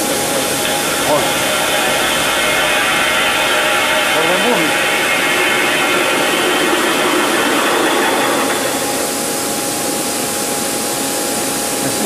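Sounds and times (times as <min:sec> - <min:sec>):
drilling machine with high whine: 0:00.0 - 0:12.0.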